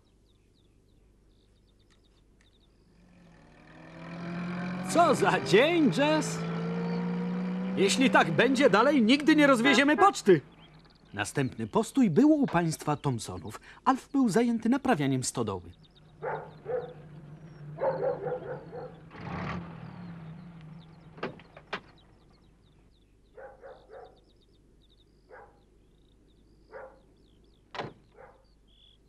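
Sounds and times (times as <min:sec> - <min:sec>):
faint bird chirping: 0:00.0 - 0:29.0.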